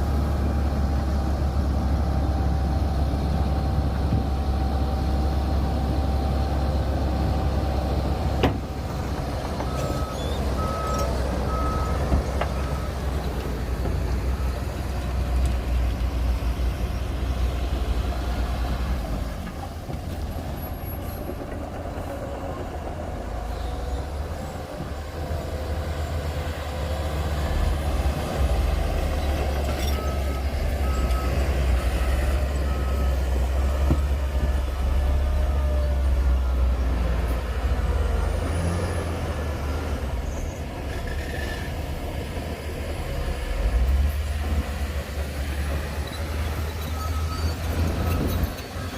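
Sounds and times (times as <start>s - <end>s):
heavy diesel machinery rumble: 0.0s - 48.9s.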